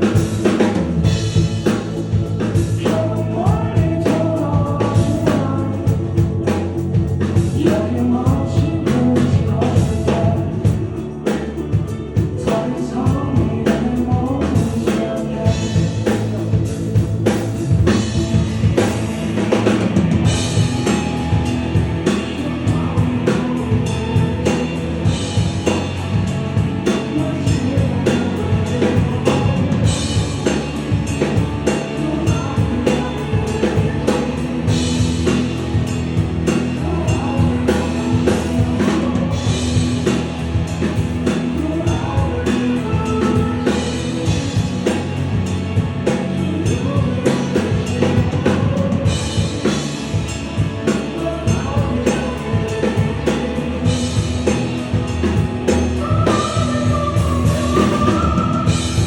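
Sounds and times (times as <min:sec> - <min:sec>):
rock song with singing: 0:00.0 - 0:59.0.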